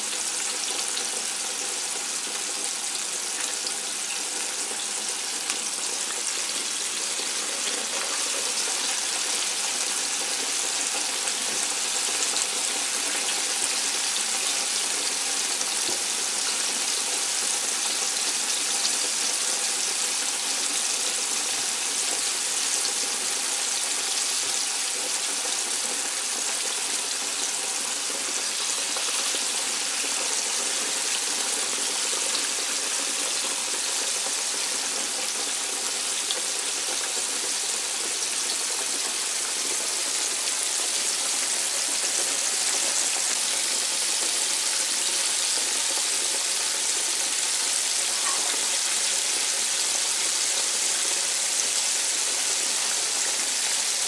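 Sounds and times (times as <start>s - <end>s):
fish frying in hot oil: 0.0s - 54.0s.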